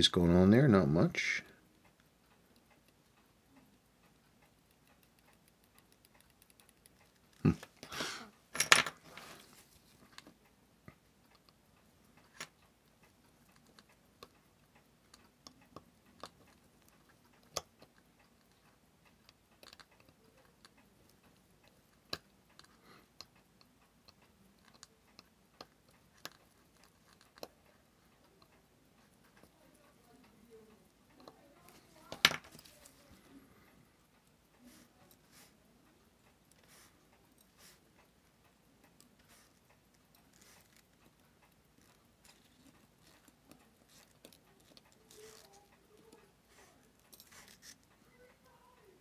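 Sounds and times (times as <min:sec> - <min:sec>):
tweezers clicking on small parts: 0:01.7 - 0:07.5, 0:10.2 - 0:32.9, 0:34.0 - 0:49.0.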